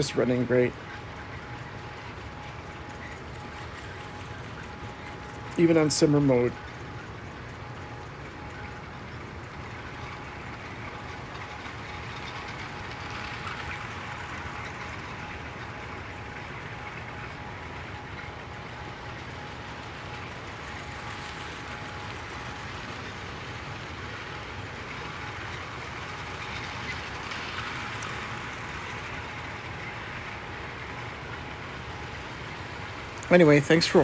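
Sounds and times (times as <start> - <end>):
model train rolling on track: 0.0 - 34.0.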